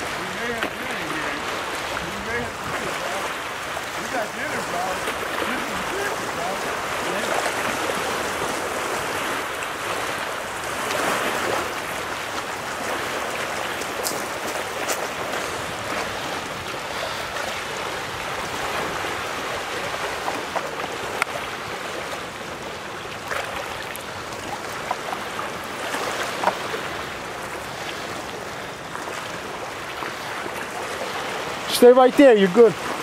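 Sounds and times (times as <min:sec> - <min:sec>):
small water splashes: 0:00.0 - 0:33.0
small waves lapping: 0:00.0 - 0:33.0.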